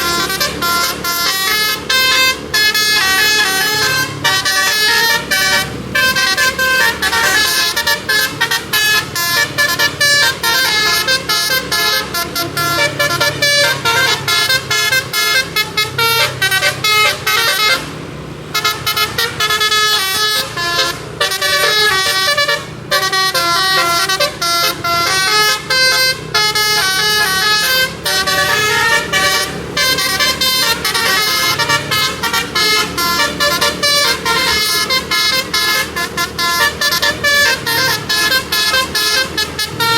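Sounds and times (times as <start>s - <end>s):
musical air horn melody: 0.0s - 39.9s.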